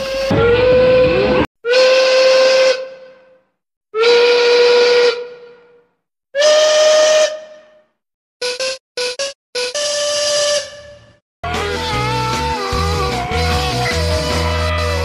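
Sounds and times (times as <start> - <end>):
steam train whistle blasts: 0.0 - 3.4, 4.0 - 5.7, 6.4 - 7.8, 9.6 - 15.0.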